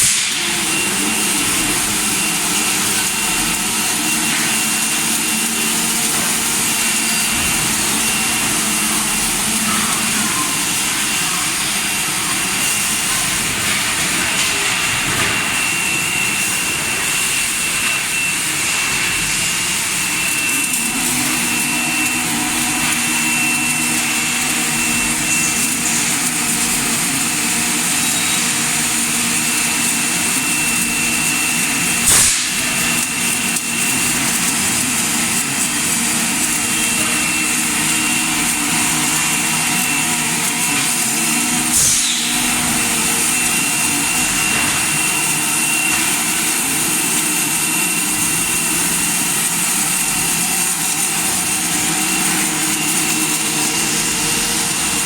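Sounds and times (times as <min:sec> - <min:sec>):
industrial machinery hum and hiss: 0:00.0 - 0:55.0.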